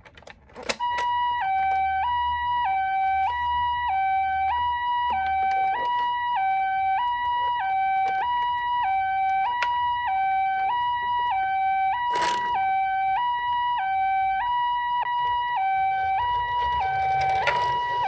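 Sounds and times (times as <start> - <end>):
ambulance two-tone siren: 0.7 - 18.0.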